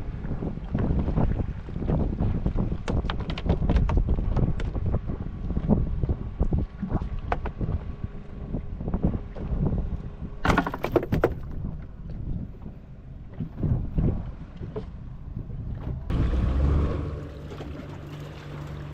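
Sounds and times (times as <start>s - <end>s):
water moving against boat: 0.0s - 18.9s
wind buffeting microphone: 0.0s - 18.9s.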